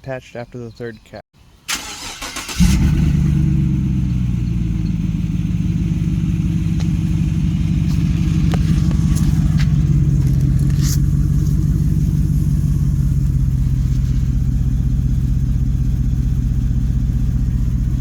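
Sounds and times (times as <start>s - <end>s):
pickup engine cranking and idling: 1.7s - 18.0s.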